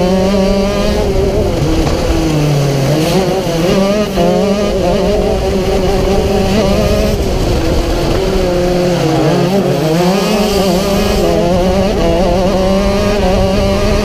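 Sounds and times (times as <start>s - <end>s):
kart engine at high revs: 0.0s - 14.0s.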